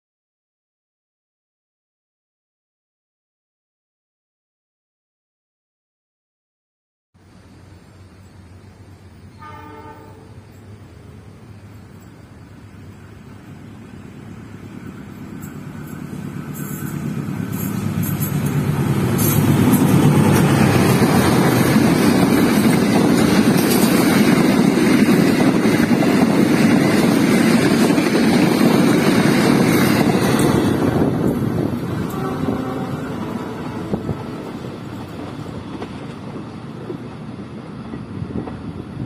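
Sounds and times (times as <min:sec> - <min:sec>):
passenger train approaching: 0:07.2 - 0:39.0
train wheels rumbling on rails: 0:07.6 - 0:39.0.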